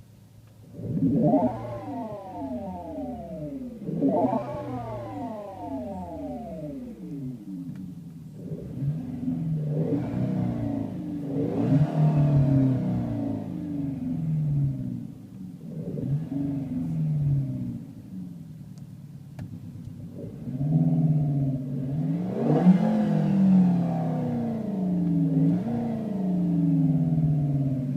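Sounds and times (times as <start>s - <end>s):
engine sound through car speakers: 0.0s - 27.9s.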